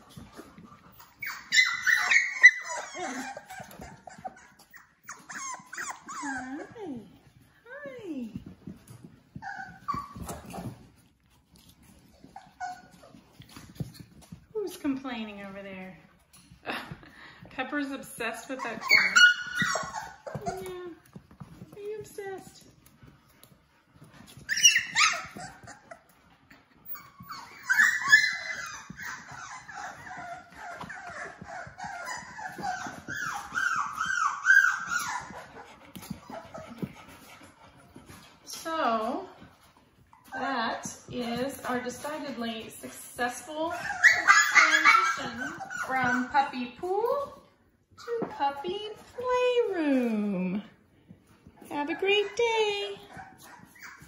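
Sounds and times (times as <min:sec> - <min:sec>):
puppies whimpering and yipping: 0:00.0 - 0:07.0, 0:08.4 - 0:15.6, 0:17.8 - 0:49.8, 0:51.1 - 0:54.0.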